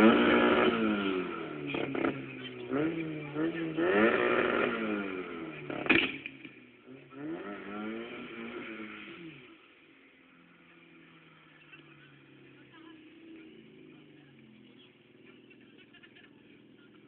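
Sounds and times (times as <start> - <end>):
engine revving: 0.0 - 15.8
car engine running: 0.0 - 17.0.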